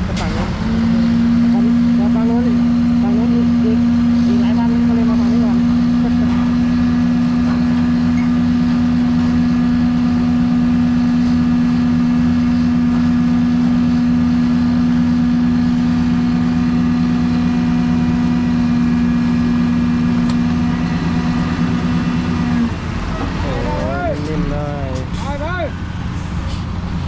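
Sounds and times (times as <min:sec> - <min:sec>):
vehicle mechanical drone: 0:00.0 - 0:27.0.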